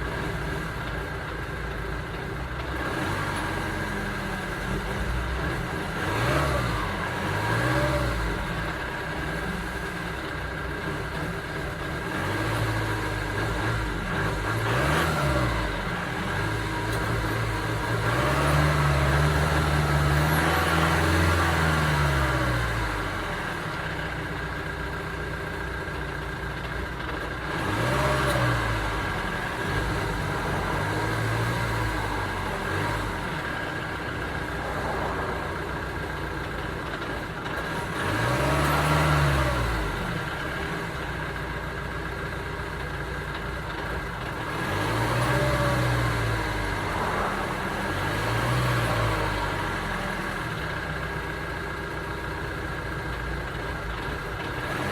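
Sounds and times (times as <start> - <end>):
van engine revving: 0.0 - 54.9.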